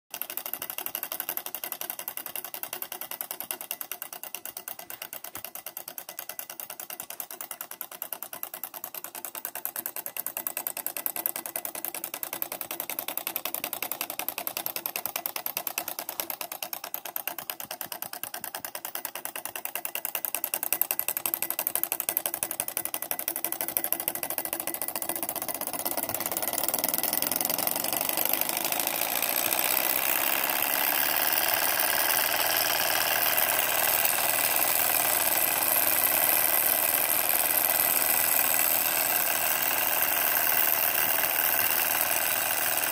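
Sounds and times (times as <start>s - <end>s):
model engine mechanical clatter: 0.1s - 42.9s.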